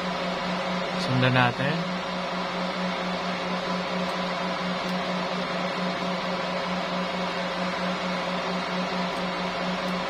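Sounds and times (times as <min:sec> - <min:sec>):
pulsing machine hum: 0:00.0 - 0:10.0.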